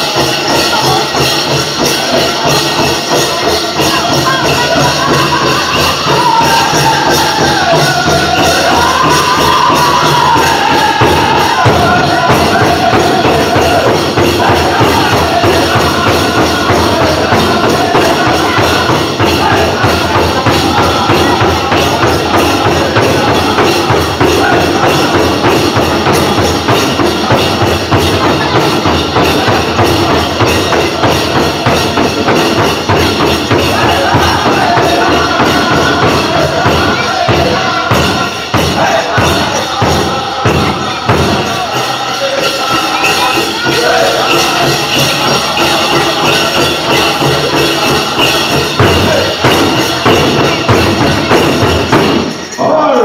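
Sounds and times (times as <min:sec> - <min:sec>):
bells jingling: 0:00.0 - 0:53.0
driving drumbeat: 0:00.0 - 0:53.0
group singing: 0:00.0 - 0:53.0.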